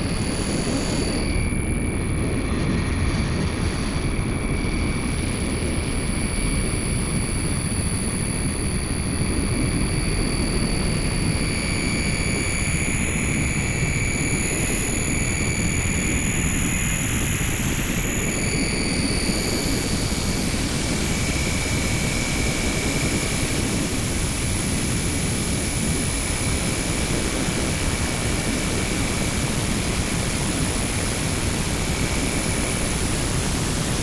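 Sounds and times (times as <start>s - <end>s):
low noise drone: 0.0s - 34.0s.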